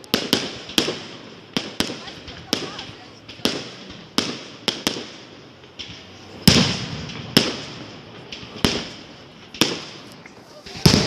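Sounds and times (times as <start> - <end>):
firework bangs with echo: 0.0 - 11.0.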